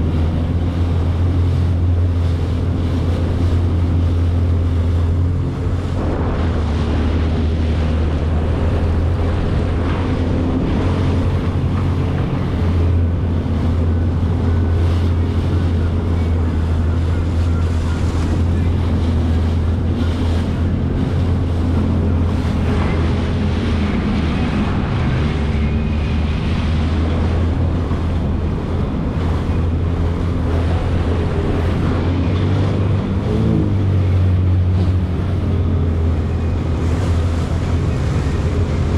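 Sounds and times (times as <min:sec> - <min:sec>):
jet ski engine running: 0:00.0 - 0:38.9
wind buffeting microphone: 0:00.0 - 0:38.9.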